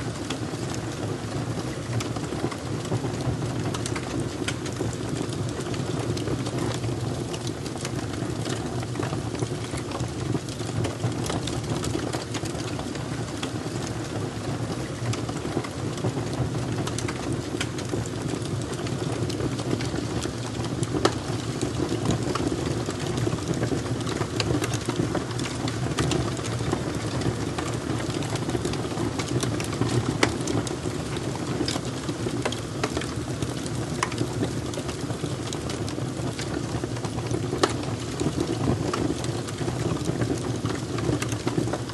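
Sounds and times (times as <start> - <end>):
low rush of flames: 0.0 - 41.9
wood fire crackling: 0.0 - 41.9.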